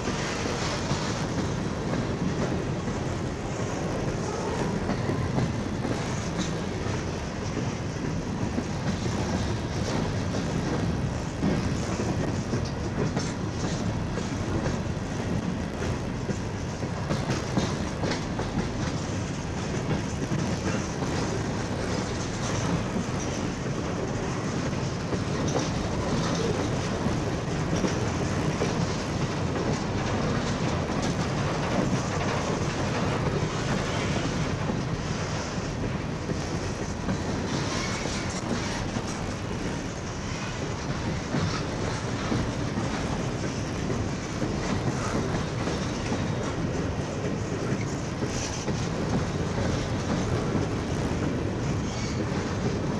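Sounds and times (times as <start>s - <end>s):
freight train cars rolling: 0.0s - 52.9s
wheels clicking over rail joints: 0.0s - 52.9s.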